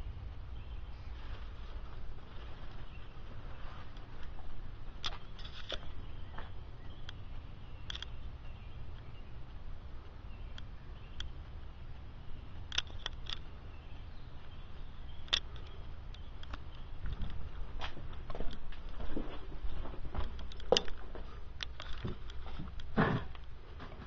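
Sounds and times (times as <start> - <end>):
steady low rumble: 0.0 - 23.8.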